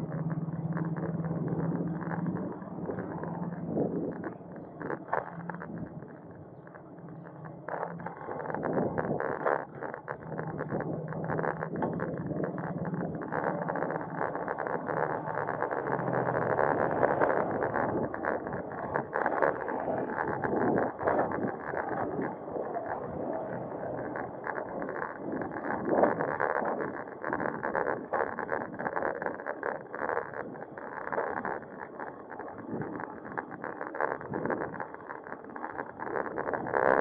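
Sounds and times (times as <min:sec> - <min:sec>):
bicycle rattles and clicks: 0:00.0 - 0:37.0
road noise rush: 0:00.0 - 0:37.0
vehicle engine humming: 0:00.0 - 0:37.0.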